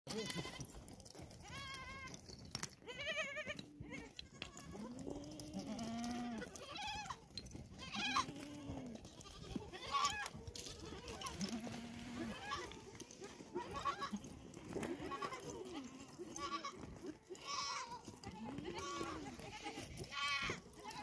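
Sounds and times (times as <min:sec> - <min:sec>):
goats bleating: 0:00.1 - 0:21.0.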